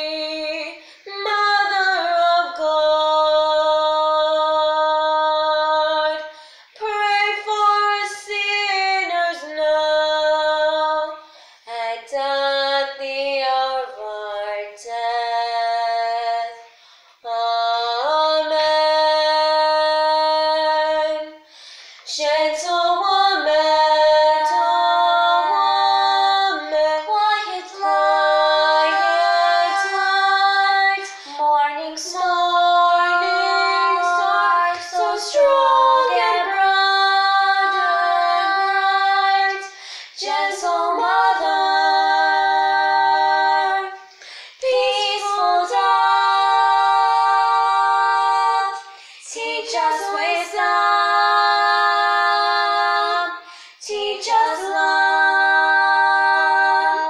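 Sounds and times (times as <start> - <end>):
girls singing a cappella: 0.0 - 57.0.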